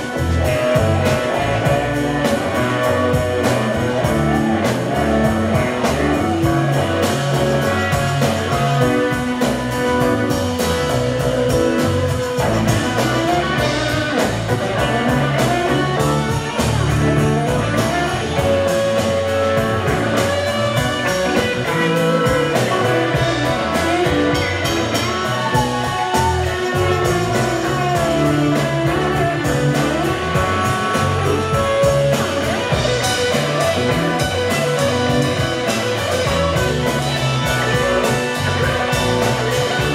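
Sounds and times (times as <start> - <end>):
bass guitar: 0.0 - 39.9
drum kit: 0.0 - 39.9
electric guitar lines: 0.0 - 39.9.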